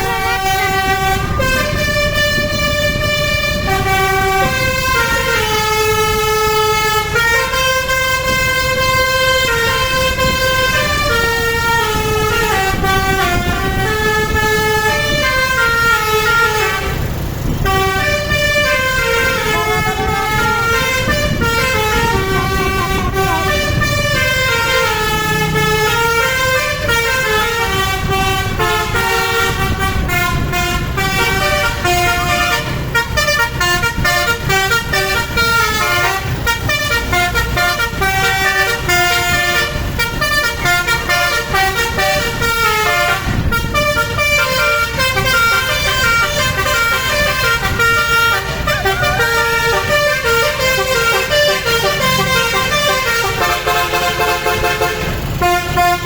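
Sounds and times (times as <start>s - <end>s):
engine rumble: 0.0s - 56.0s
multi-tone bus horn playing tunes: 0.0s - 56.0s.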